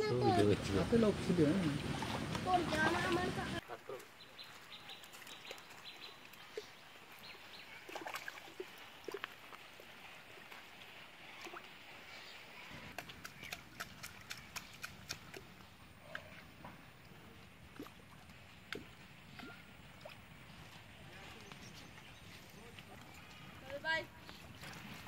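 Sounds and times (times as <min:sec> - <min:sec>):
splashes of wading: 0:00.0 - 0:25.0
water sloshing: 0:00.2 - 0:25.0.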